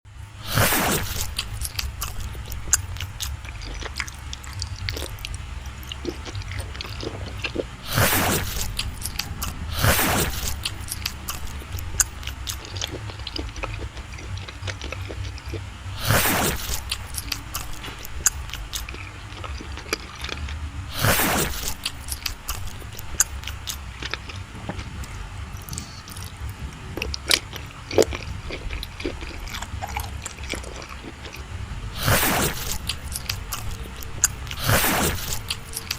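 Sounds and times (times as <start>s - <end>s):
steady low hum: 0.0s - 35.9s
soft chewing: 0.3s - 35.9s
wet mouth clicks: 0.4s - 35.9s.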